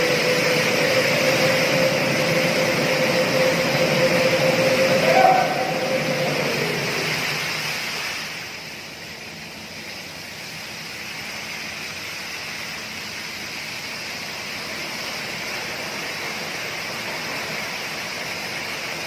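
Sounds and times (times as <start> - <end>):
water rushing from outlet: 0.0 - 19.0.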